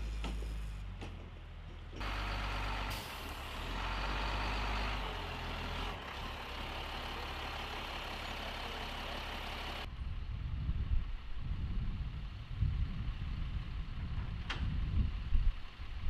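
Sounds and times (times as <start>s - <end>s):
truck diesel engine low drone: 0.0s - 16.0s.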